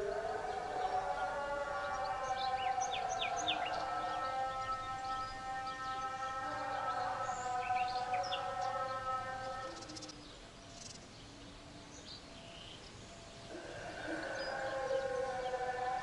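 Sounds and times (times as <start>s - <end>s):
call to prayer over loudspeaker: 0.0s - 10.5s, 13.4s - 16.0s
birds chirping: 0.0s - 16.0s.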